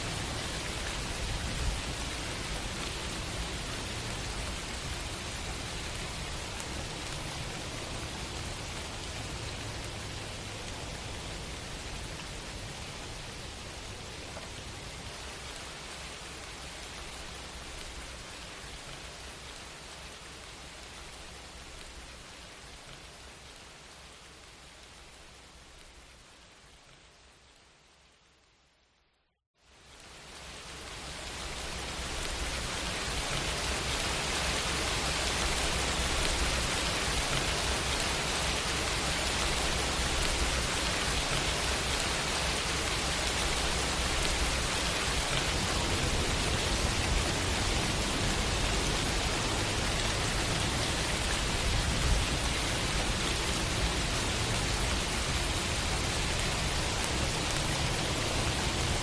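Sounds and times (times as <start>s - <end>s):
heavy rain: 0.0s - 28.3s, 29.6s - 59.0s.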